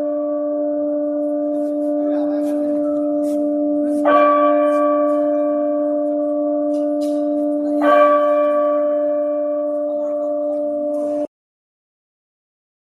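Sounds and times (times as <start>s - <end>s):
electronic church bell tolling: 0.0s - 11.3s.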